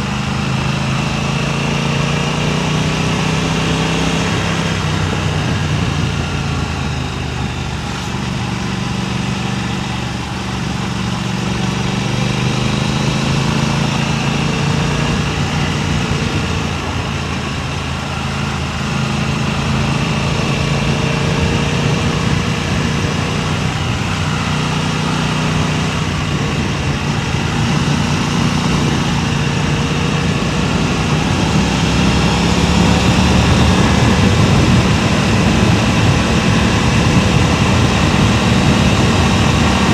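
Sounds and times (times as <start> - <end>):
vehicle engine running: 0.0 - 39.9
wind noise on microphone: 3.1 - 39.9.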